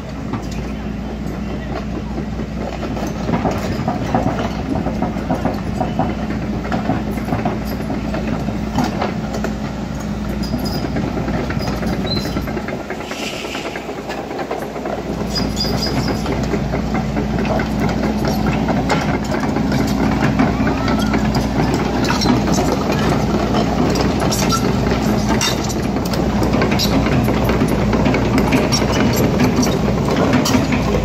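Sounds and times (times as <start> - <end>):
diesel engine running: 0.0 - 31.0
track chains clanking and rattling: 0.0 - 31.0.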